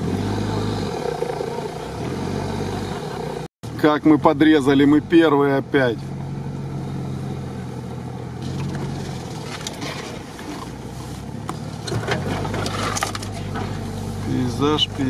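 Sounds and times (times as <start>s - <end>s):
car engine low drone: 0.0s - 15.0s.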